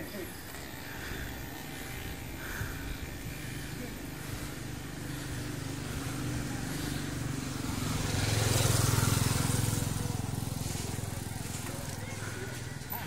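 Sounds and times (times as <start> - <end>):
road and wind hiss: 0.0 - 13.0
vehicle engine humming: 0.0 - 13.0.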